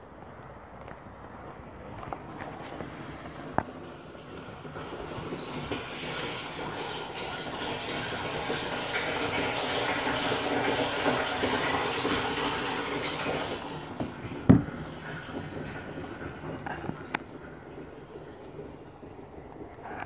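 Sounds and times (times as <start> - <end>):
water splashing into tank: 3.5 - 20.0.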